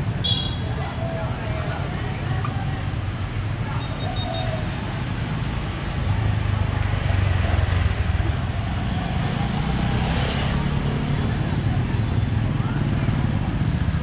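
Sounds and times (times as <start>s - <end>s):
scooter engines passing: 0.0s - 14.0s
street noise hum: 0.0s - 14.0s.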